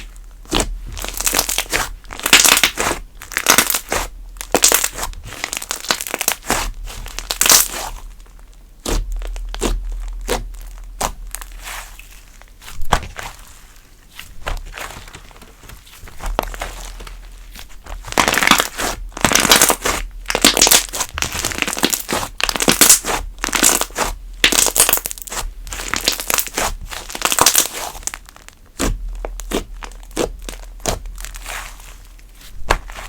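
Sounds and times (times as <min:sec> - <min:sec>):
hands squishing thick slime: 0:00.0 - 0:33.0.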